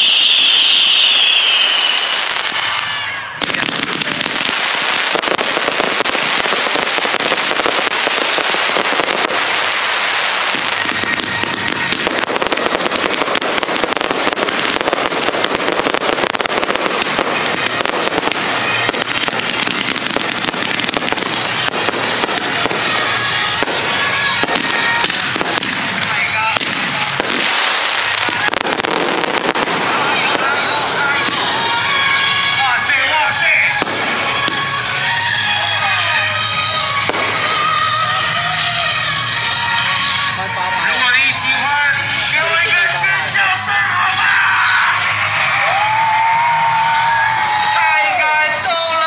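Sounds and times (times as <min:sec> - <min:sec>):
firework whistle: 0:00.0 - 0:49.0
fireworks crackling: 0:00.0 - 0:49.0.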